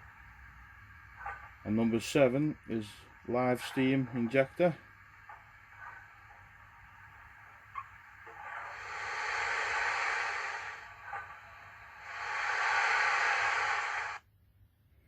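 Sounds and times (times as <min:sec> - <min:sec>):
steam injector hiss: 0:00.0 - 0:14.2.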